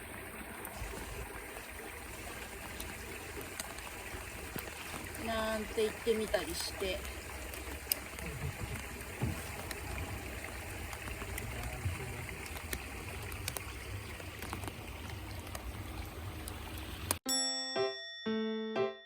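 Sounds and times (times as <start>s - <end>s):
hiss of moving water: 0.0s - 17.2s.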